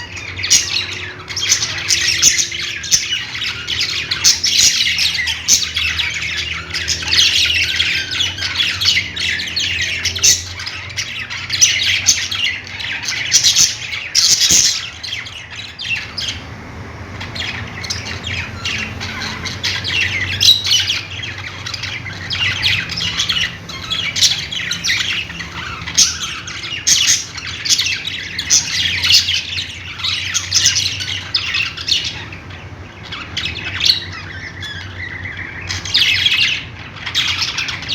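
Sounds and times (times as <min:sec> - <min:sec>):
harsh bird squawks: 0:00.0 - 0:16.5, 0:17.2 - 0:37.9
budgerigars chirping: 0:00.0 - 0:37.9.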